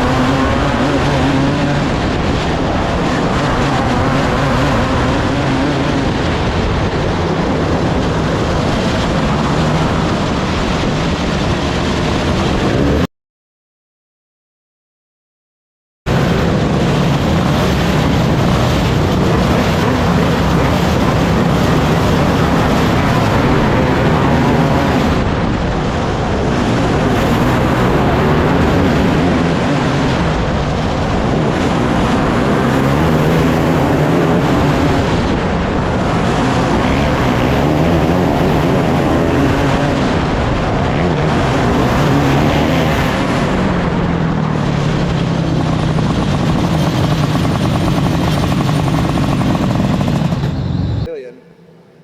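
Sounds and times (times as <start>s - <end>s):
race car engines passing: 0.0s - 13.1s, 16.1s - 52.0s.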